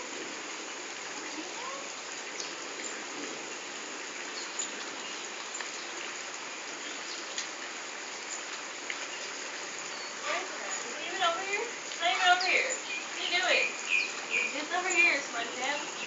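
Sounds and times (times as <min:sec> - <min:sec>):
steady hissing noise: 0:00.0 - 0:16.0.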